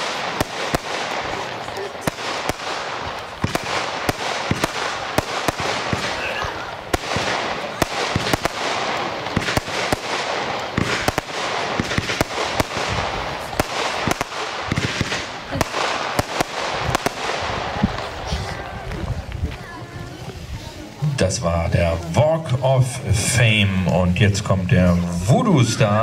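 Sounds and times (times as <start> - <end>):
dense crackling of bursting stars: 0.0 - 26.0
firework launch and burst reports: 0.0 - 26.0.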